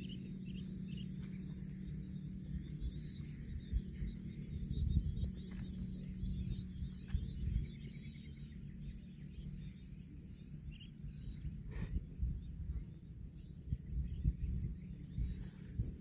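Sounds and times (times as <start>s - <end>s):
faint bird chirps: 0.0s - 16.0s
low rumble: 0.0s - 16.0s.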